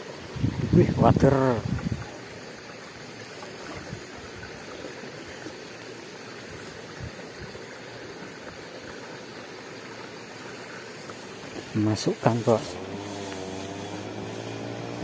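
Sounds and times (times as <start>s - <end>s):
water trickling through channel: 0.0s - 15.0s.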